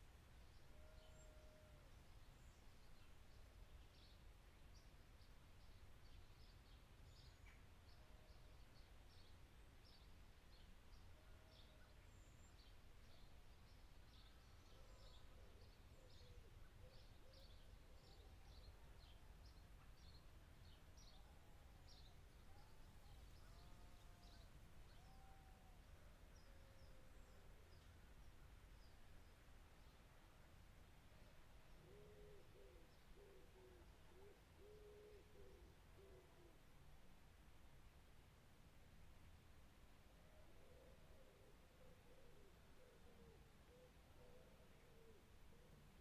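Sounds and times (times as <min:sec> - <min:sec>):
faint birdsong: 0:00.0 - 0:37.1, 0:39.2 - 0:46.0.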